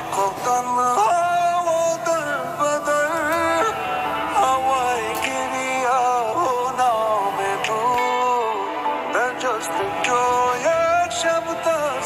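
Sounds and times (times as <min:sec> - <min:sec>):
man singing pop song: 0:00.0 - 0:12.0.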